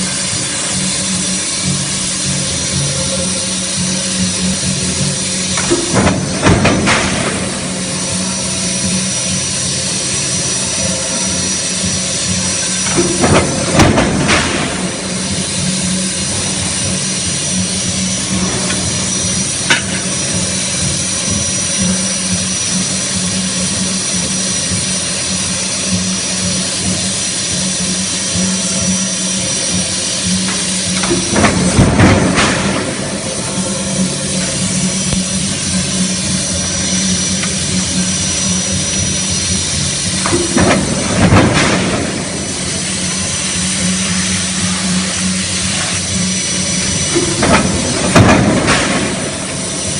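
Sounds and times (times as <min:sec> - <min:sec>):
forging plant machinery roaring: 0:00.0 - 0:49.9.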